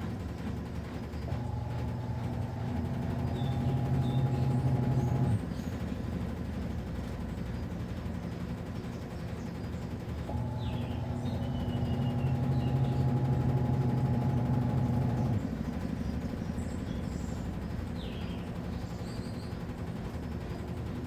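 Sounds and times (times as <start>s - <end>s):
washing machine motor humming: 0.0s - 21.0s.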